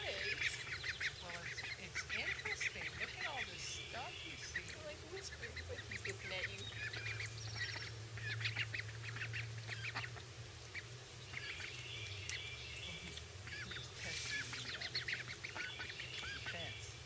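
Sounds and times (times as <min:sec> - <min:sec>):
ducklings peeping: 0:00.0 - 0:17.0
low steady hum: 0:00.0 - 0:17.0.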